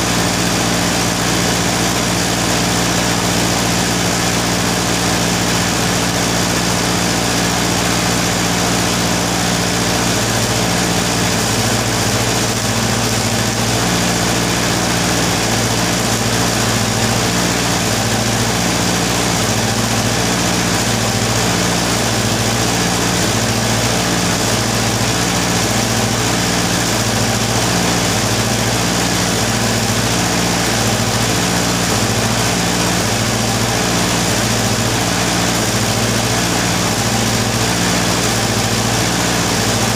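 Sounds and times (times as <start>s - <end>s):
welding machine hum: 0.0s - 39.9s.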